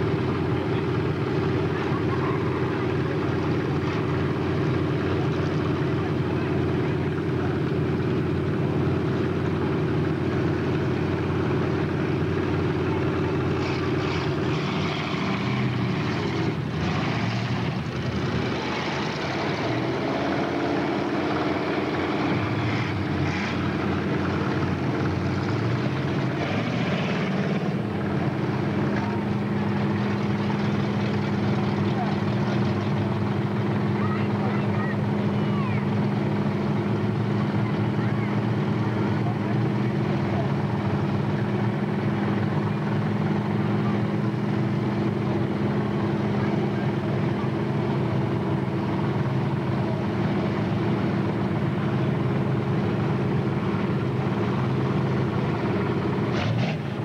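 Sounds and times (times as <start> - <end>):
stock car engines droning: 0.0 - 57.0.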